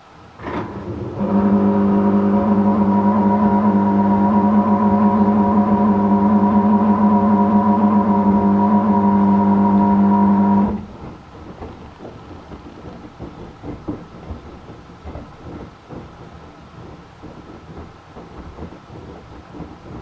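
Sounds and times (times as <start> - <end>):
washing machine loud hum: 0.0 - 20.0
irregular rumbling with soft knocks: 0.4 - 20.0.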